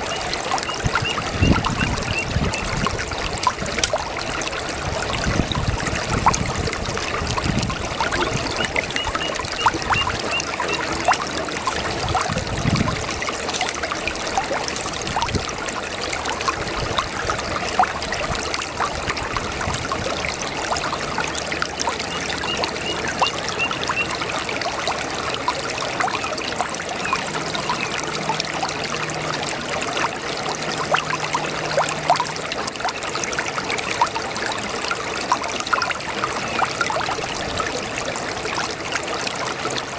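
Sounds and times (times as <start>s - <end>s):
brook water trickling over stones: 0.0s - 39.9s.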